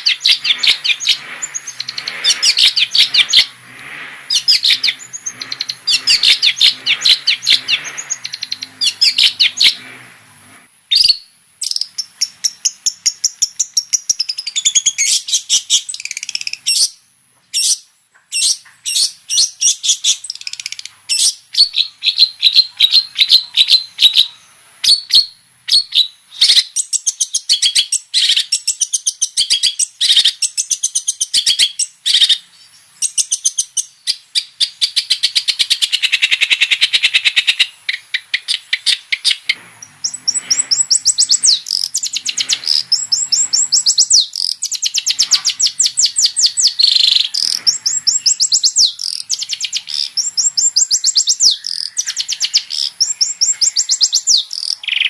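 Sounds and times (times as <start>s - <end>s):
shrike singing chattering song: 0.0s - 55.0s.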